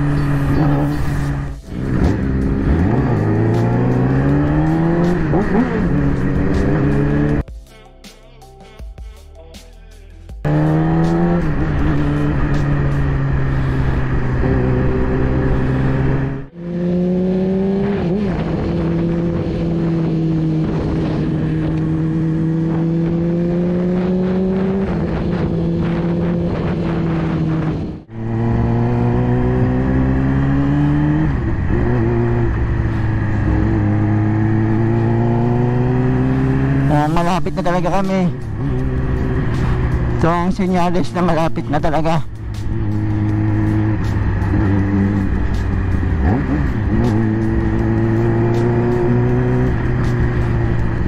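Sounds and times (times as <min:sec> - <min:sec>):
motorcycle engine cruising: 0:00.0 - 0:07.4, 0:10.4 - 0:51.0.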